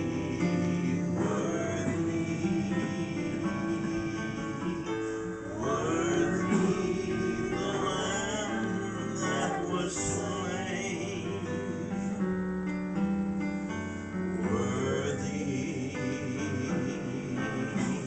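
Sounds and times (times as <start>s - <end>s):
voices singing a hymn: 0.0s - 12.4s, 14.3s - 18.0s
digital piano accompaniment: 0.0s - 18.0s.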